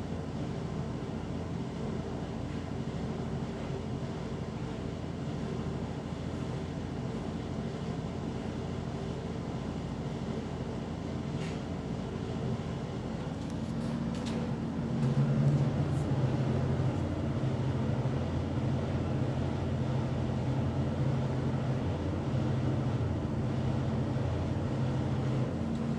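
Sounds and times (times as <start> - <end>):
washing machine humming: 0.0 - 25.9.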